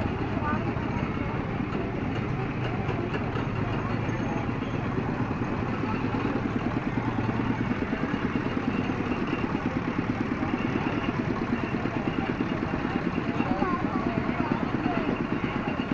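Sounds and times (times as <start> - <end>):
engine chugging: 0.0 - 15.9.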